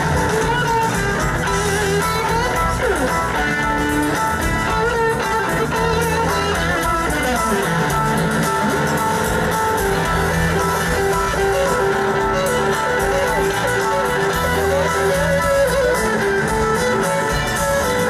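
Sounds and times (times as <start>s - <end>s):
bass guitar: 0.0s - 18.0s
drums: 0.0s - 18.0s
electric guitar lead with bent notes: 0.0s - 18.0s.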